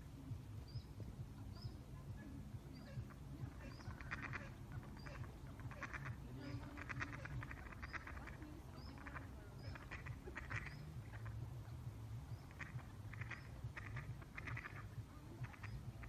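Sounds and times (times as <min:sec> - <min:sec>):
low steady rumble: 0:00.0 - 0:16.0
ducks quacking: 0:01.3 - 0:16.0.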